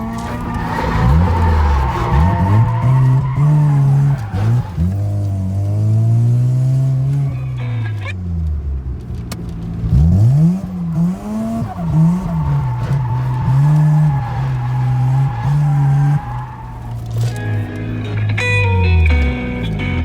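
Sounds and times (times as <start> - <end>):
tyres squealing: 0.0 - 8.2, 9.9 - 19.9
car engine revving hard: 0.0 - 8.6, 9.5 - 18.1.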